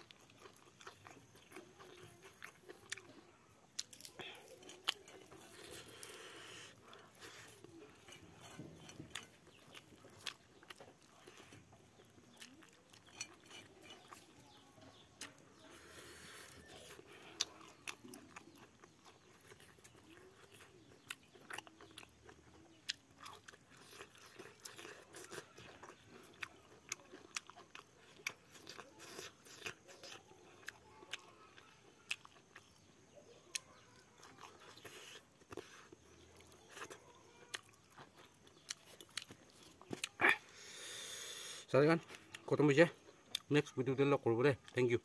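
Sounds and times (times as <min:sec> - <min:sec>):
person chewing: 0:00.0 - 0:43.5.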